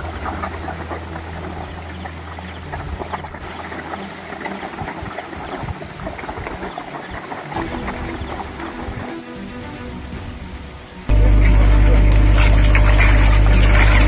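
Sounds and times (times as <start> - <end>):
steady low hum: 0.0 - 6.7, 7.6 - 14.0
muddy water splashing: 0.0 - 14.0.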